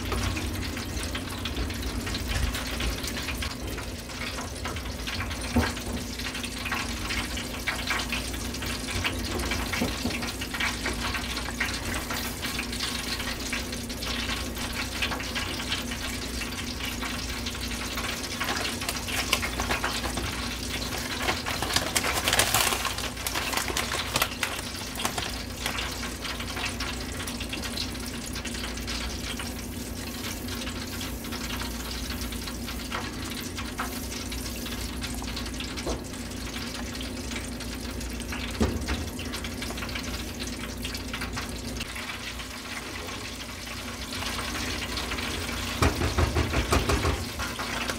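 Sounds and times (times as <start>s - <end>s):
grits bubbling in a saucepan: 0.0s - 47.9s.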